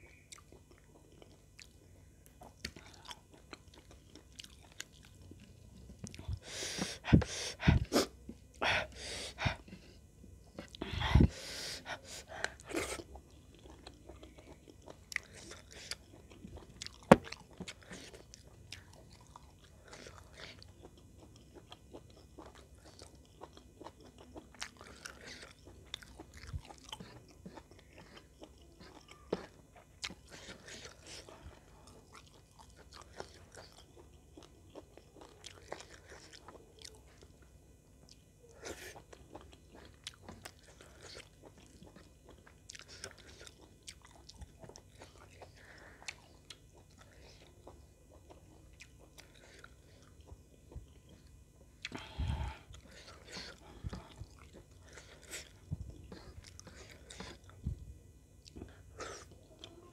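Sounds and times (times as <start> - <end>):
person chewing with wet mouth clicks: 0.1 - 6.4, 12.4 - 37.4, 38.0 - 57.8.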